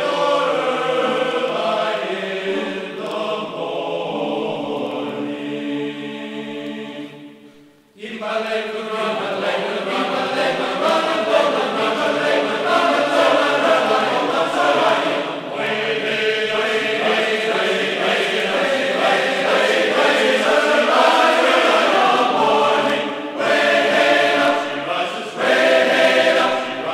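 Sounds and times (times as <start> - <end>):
group of voices singing: 0.0 - 26.9.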